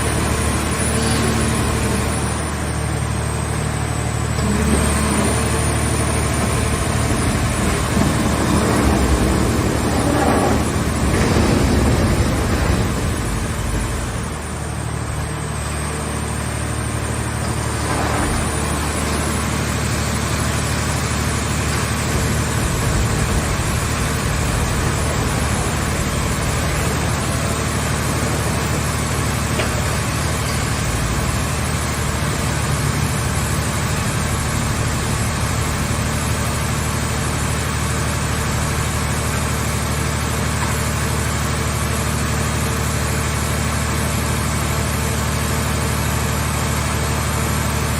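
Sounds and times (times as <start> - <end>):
hydraulic power unit humming: 0.0 - 47.9.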